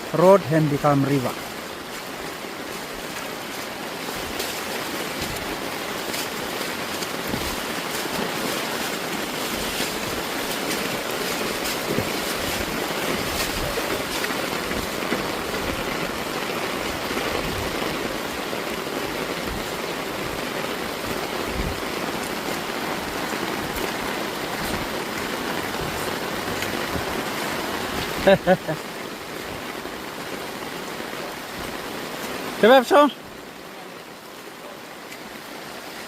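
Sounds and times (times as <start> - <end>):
water rushing over road: 0.0 - 36.0.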